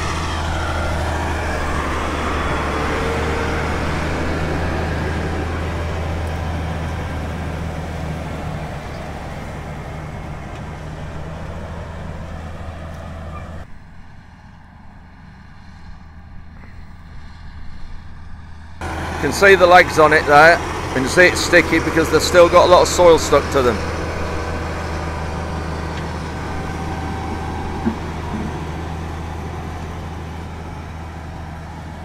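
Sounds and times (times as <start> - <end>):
tractor engine humming: 0.0 - 32.0.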